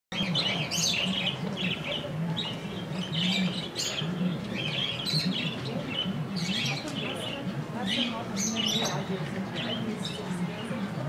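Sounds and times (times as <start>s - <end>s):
birds chirping and twittering: 0.1s - 11.0s.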